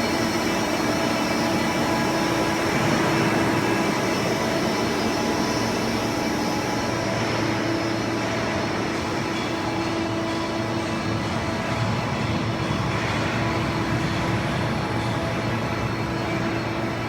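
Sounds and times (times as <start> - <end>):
injection molding machine humming: 0.0 - 17.0.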